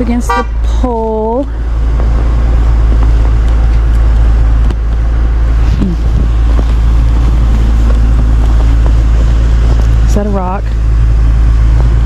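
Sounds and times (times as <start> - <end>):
truck engine and tyres in snow: 0.0 - 12.0.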